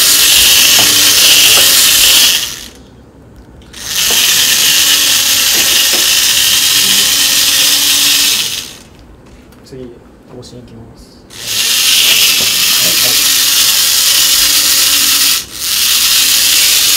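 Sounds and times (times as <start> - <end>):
small motors whirring: 0.0 - 2.8, 3.6 - 9.0, 11.3 - 16.9.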